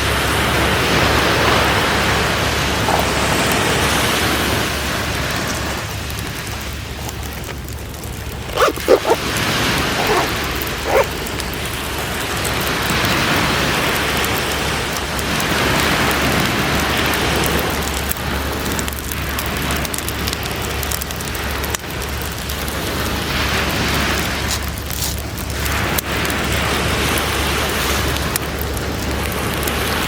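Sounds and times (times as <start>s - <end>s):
campfire hiss and crackle: 0.0s - 30.0s.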